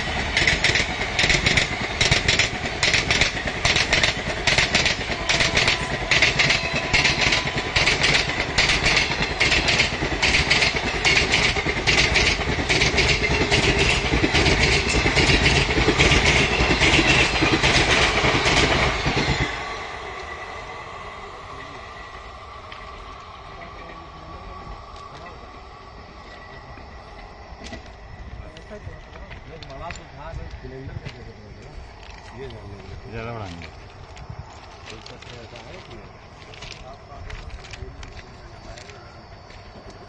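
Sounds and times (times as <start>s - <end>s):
train wheels clattering over rail joints: 0.0s - 20.4s, 22.6s - 40.0s
train rumble: 0.0s - 40.0s.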